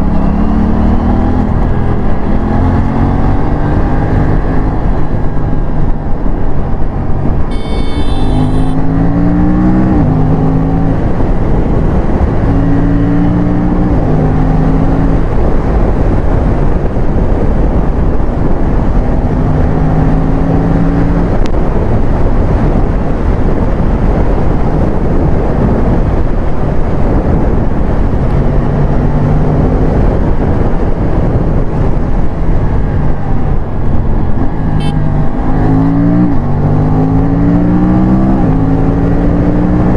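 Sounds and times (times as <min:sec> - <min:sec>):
motorcycle engine at full throttle: 0:00.0 - 0:39.9.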